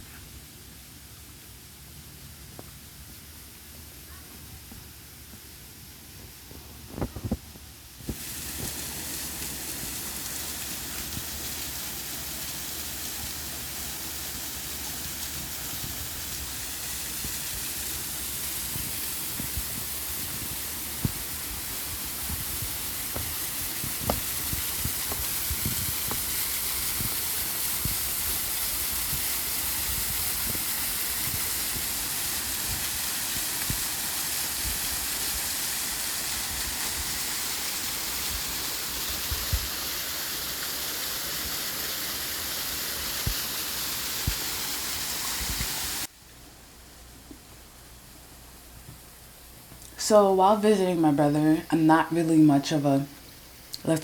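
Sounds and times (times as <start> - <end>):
steady rushing hiss: 0.0 - 54.0.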